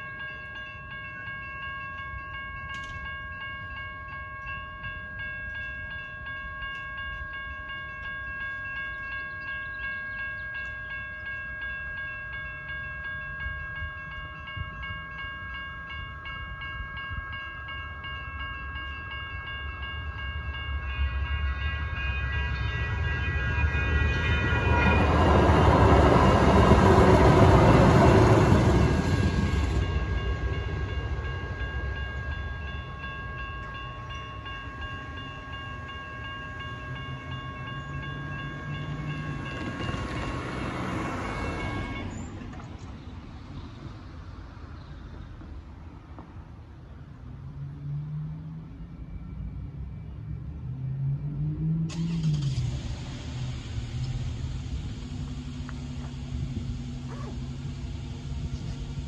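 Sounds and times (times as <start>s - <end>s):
light rail train rumble: 0.0s - 59.0s
railroad crossing bells ringing: 0.0s - 59.0s.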